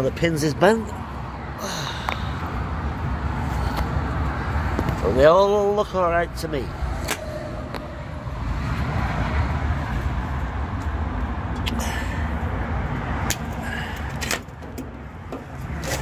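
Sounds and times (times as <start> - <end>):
steady low rumble: 1.1 - 15.8.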